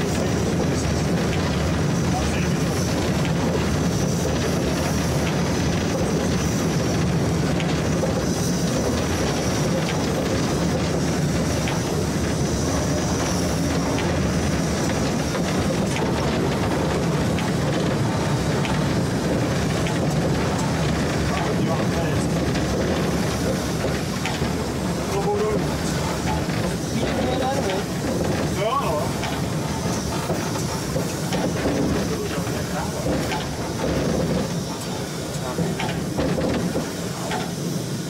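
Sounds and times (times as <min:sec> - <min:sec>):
steam locomotive rumble and rattle: 0:00.0 - 0:38.0
wheels clicking over track: 0:00.0 - 0:38.0.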